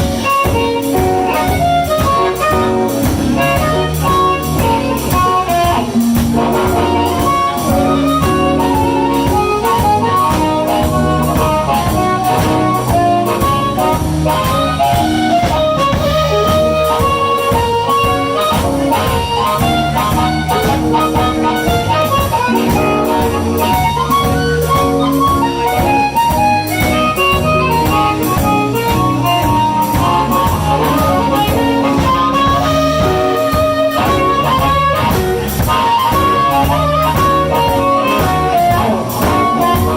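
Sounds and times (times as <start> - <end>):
blues band playing live: 0.0 - 39.9
melodic lead line: 0.0 - 39.9
steady drum beat: 0.0 - 39.9.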